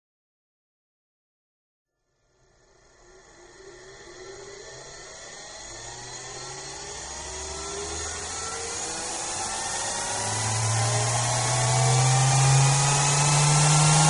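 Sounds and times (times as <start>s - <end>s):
spindle motor whine rising in pitch: 2.4s - 14.0s.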